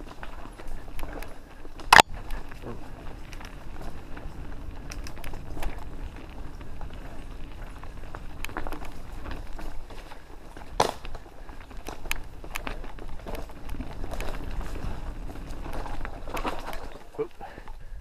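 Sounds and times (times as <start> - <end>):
bike tyres rumbling on dirt: 0.0 - 18.0.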